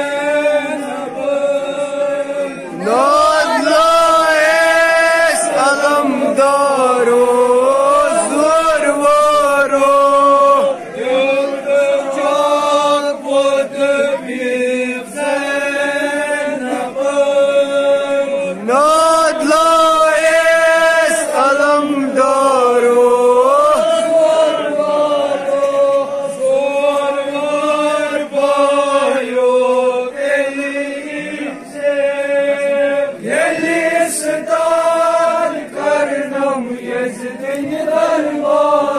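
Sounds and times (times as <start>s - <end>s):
men chanting a lament: 0.0s - 38.9s.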